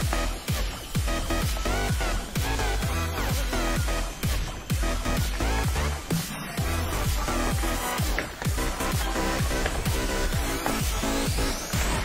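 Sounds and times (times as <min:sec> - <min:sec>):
deep kick drum: 0:01.0 - 0:12.0.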